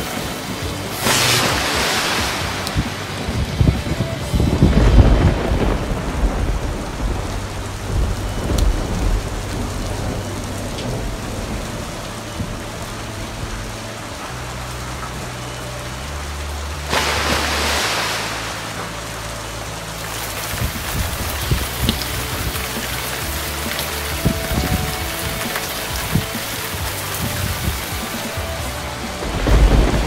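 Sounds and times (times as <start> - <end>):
heavy rain pouring: 0.0 - 30.0
thunder rumble: 0.0 - 30.0.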